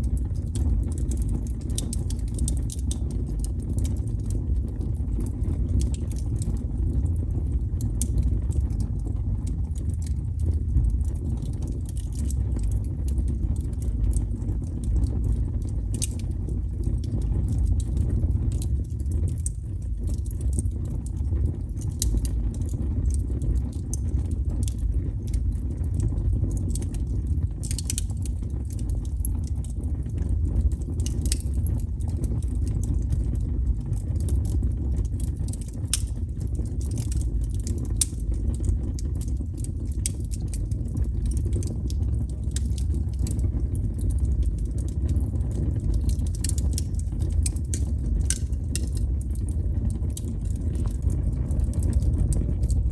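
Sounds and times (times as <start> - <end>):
fire crackles and pops: 0.0 - 52.9
wood fire flames rumbling: 0.0 - 52.9.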